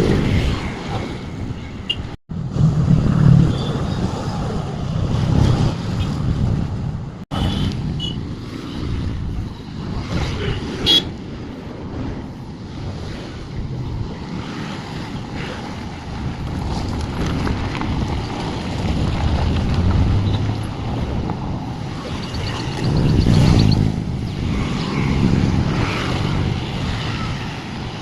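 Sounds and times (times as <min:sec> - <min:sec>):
road traffic noise: 0:00.0 - 0:28.0
wind buffeting microphone: 0:00.0 - 0:28.0.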